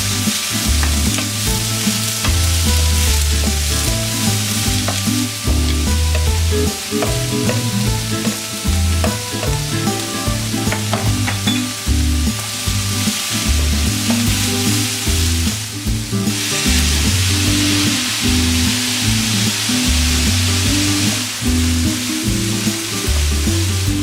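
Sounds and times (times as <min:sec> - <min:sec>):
background music with bass line: 0:00.0 - 0:24.0
food sizzling in a pan: 0:00.0 - 0:24.0.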